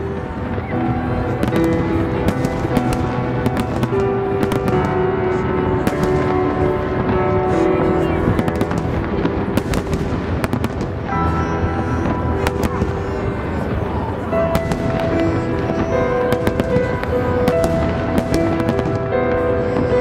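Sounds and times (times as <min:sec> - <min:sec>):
fireworks cracks and bangs: 0:00.0 - 0:20.0
music with held notes: 0:00.0 - 0:20.0.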